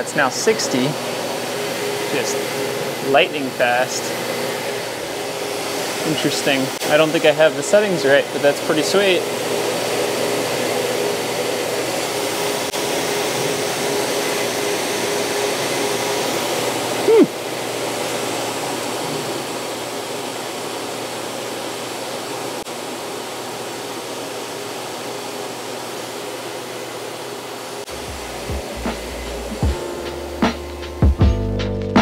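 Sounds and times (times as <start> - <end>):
blower-like rushing noise: 0.0 - 31.1.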